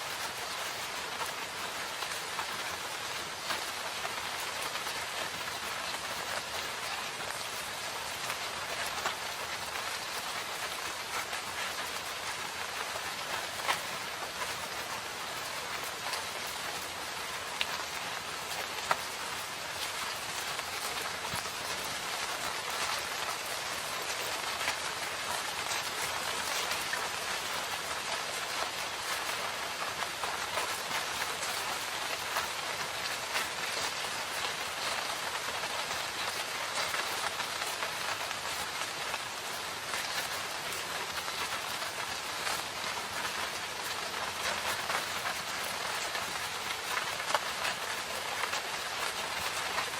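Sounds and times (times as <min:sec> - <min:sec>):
rain on leaves: 0:00.0 - 0:49.9.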